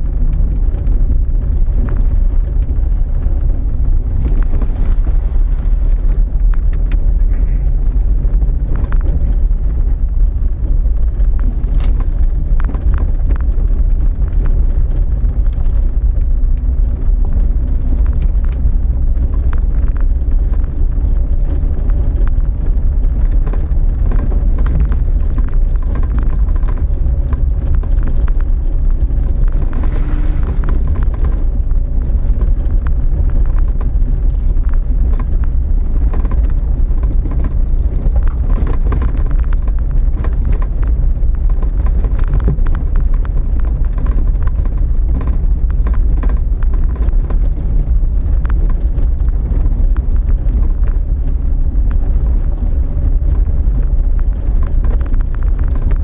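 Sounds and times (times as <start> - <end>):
suspension knocks and rattles: 0.0 - 56.0
vehicle engine and road rumble: 0.0 - 56.0.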